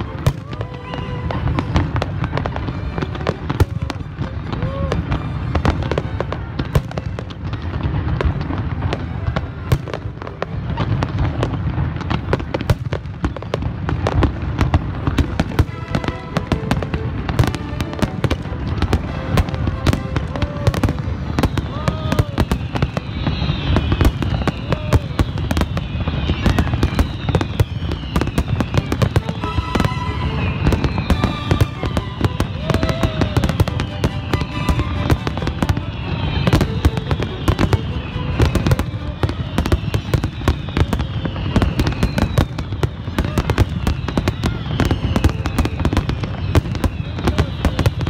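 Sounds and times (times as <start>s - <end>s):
falling firework whistles: 0.0s - 48.0s
fireworks bursts and crackling: 0.0s - 48.0s.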